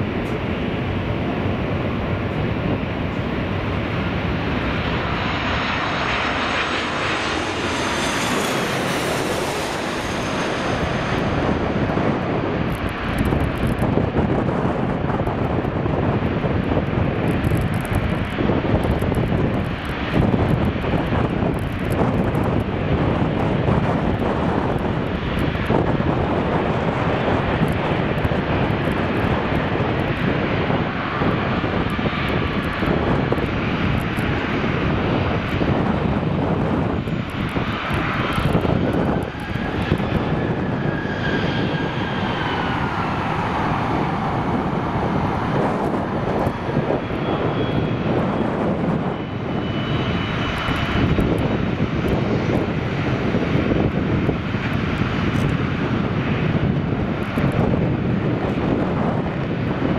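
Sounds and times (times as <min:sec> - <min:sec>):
jet engines running: 0:00.0 - 0:59.9
turbine whine: 0:00.0 - 0:59.9.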